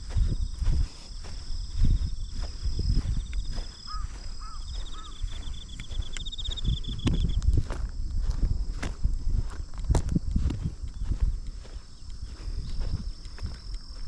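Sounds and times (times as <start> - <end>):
insects trilling: 0.0 - 14.0
walking footsteps: 0.0 - 14.0.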